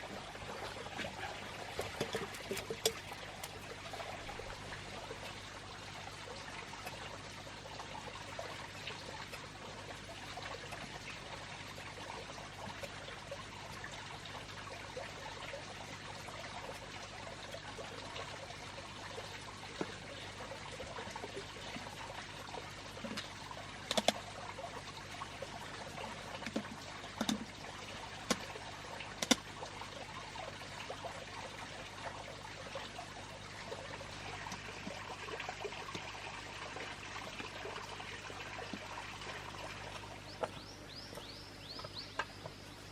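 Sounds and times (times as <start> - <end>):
water trickling: 0.0 - 42.9.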